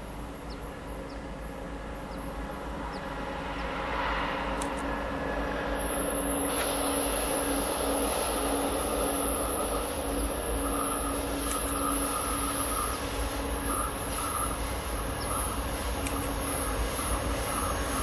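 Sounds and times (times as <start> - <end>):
faint hum: 0.0 - 18.0
train wheels on rail: 0.0 - 18.0.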